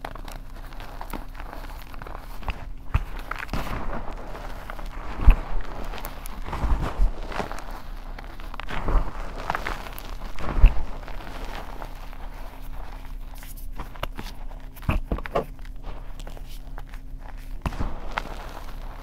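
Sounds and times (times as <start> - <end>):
hands crunching chalk powder: 0.0 - 19.0.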